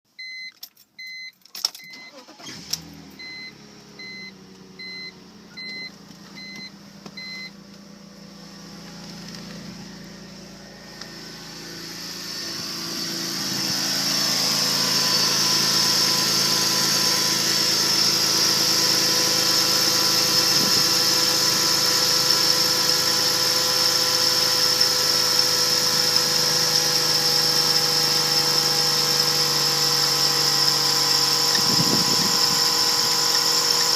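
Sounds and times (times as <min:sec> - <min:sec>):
car engine starting and idling: 0:00.2 - 0:33.9.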